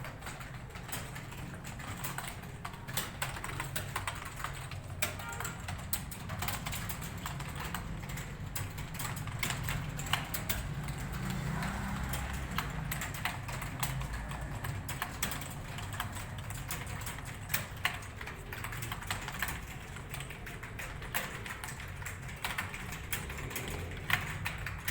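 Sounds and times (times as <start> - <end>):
fast keyboard typing: 0.0 - 24.9.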